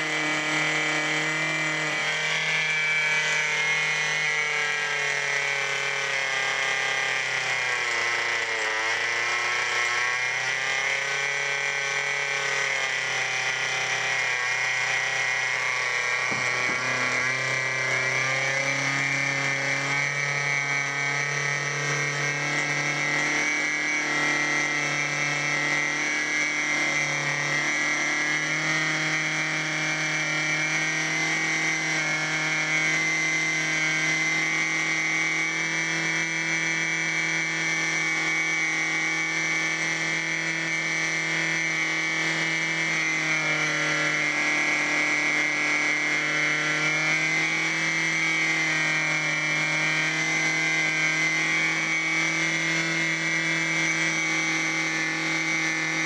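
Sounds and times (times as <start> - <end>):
model engine running at high speed: 0.0 - 56.0.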